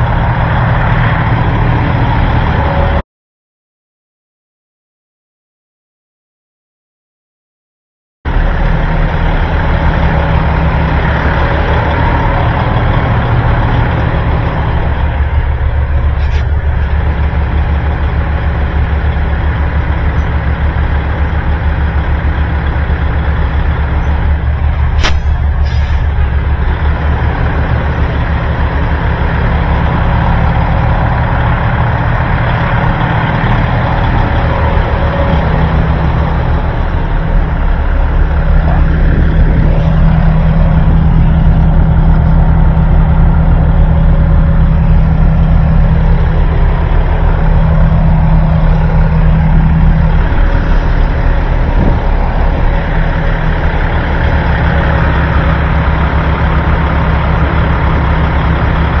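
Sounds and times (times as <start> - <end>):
diesel engine idling: 0.0 - 3.0, 8.3 - 59.0.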